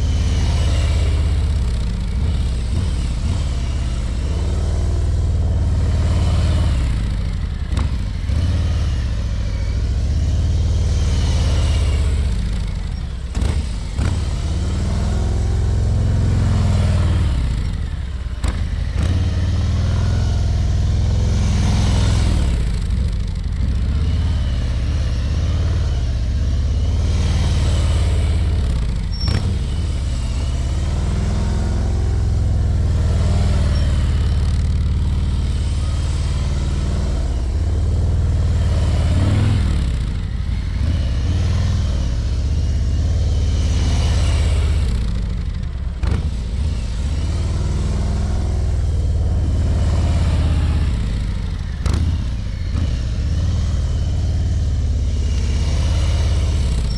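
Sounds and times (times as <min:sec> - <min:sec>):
motorcycle engine passing: 0:00.0 - 0:56.9.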